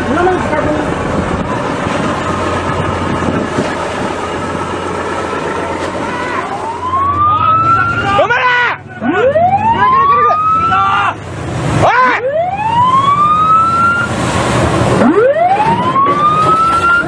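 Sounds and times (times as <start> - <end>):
ship's siren wailing: 0.0 - 17.0
water rushing at hull: 0.0 - 17.0.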